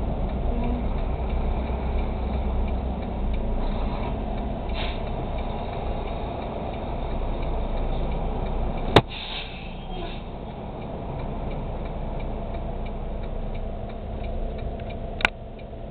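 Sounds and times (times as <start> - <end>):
diesel engine rumbling: 0.0 - 15.9.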